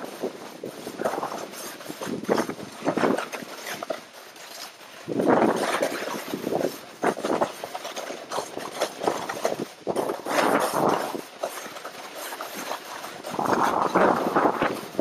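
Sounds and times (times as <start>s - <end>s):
skis scraping over slushy snow: 0.0s - 15.0s.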